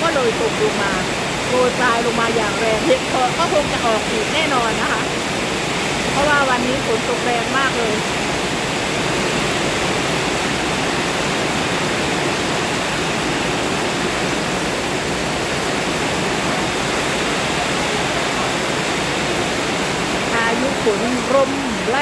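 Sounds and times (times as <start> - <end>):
heavy rain pouring in wind: 0.0 - 22.0.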